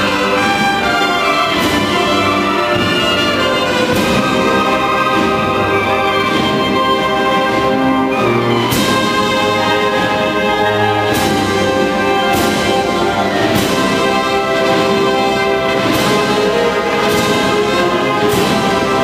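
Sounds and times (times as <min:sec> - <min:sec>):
brass chords: 0:00.0 - 0:19.0
percussion crashes: 0:00.0 - 0:19.0.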